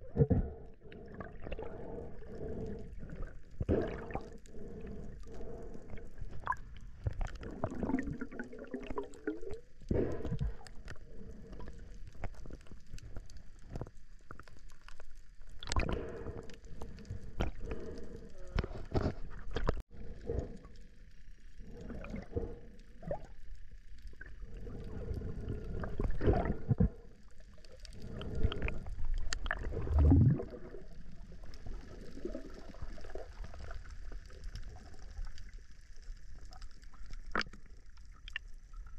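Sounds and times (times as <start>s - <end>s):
underwater gurgling: 0.0s - 38.9s.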